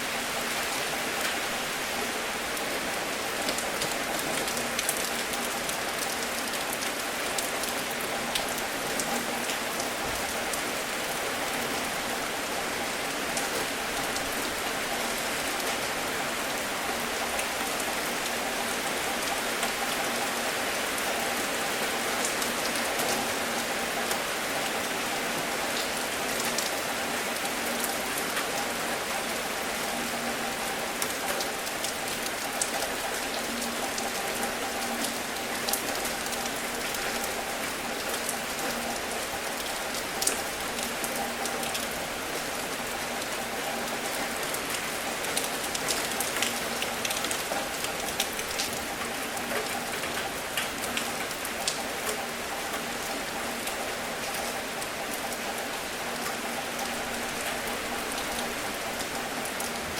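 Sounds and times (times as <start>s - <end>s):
steady rain hiss: 0.0s - 59.9s
raindrops ticking close by: 0.1s - 59.9s.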